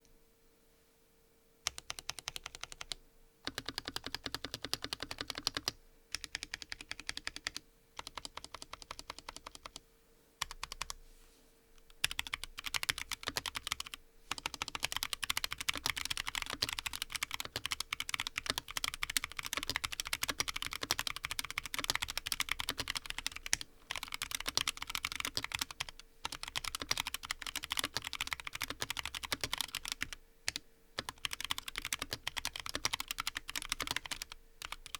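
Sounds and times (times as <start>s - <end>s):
fast typing on mechanical keyboard: 1.7s - 9.8s, 10.4s - 11.0s, 12.0s - 34.9s.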